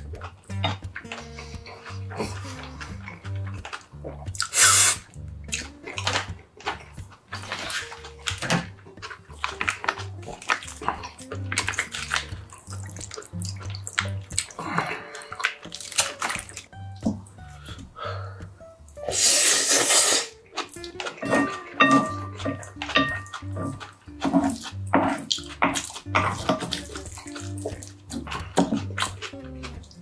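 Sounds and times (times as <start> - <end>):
background music with bass beat: 0.0 - 14.9, 20.8 - 30.0
noisy chewing mouthful: 0.0 - 30.0.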